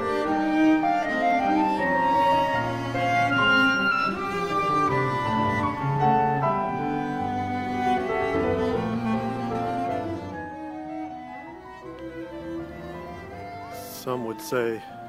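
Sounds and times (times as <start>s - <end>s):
clarinet cello and piano music: 0.0s - 15.0s.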